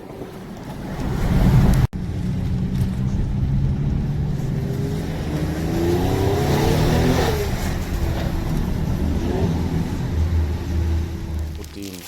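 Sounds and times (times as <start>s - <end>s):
car engine accelerating: 1.8s - 11.9s.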